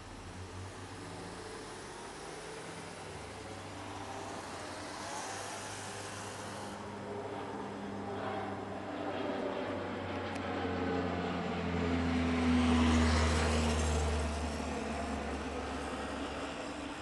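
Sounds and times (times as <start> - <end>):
propeller plane droning overhead: 0.0 - 17.0.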